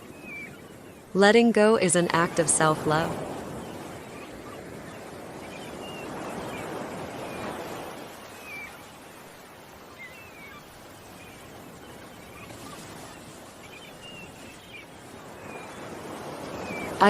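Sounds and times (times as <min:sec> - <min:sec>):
small birds chirping: 0:00.0 - 0:01.1, 0:01.8 - 0:17.0
ocean waves washing ashore: 0:00.0 - 0:17.0.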